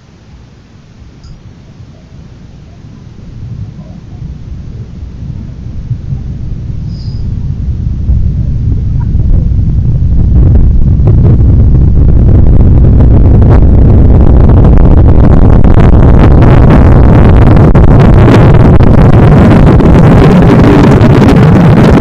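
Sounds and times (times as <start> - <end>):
loud distorted white noise: 0.0 - 22.0.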